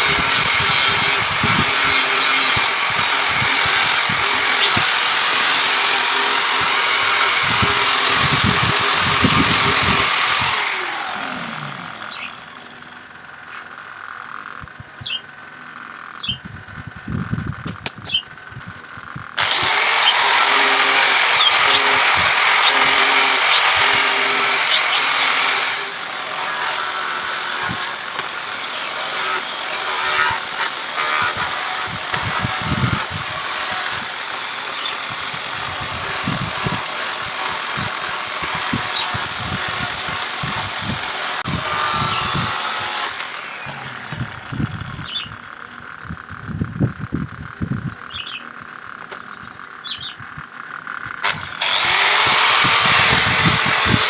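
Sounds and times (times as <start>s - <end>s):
birds chirping: 0.0s - 12.7s, 14.6s - 16.5s, 17.6s - 51.3s
power tool running: 0.0s - 14.1s, 19.1s - 47.3s, 50.3s - 54.0s.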